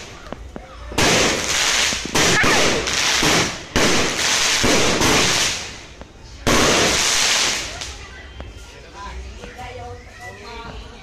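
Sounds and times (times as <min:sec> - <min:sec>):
firework fountain crackling: 0:00.0 - 0:09.5.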